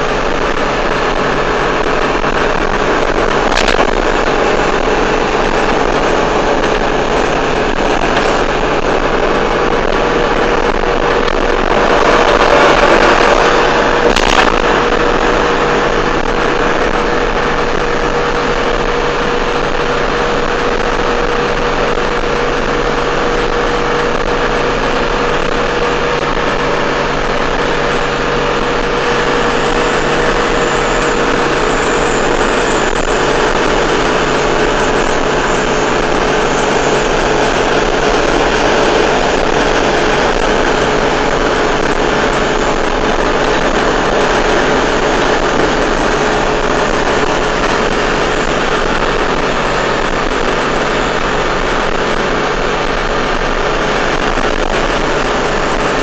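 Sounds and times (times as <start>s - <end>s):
truck engine and road drone: 0.0s - 56.0s.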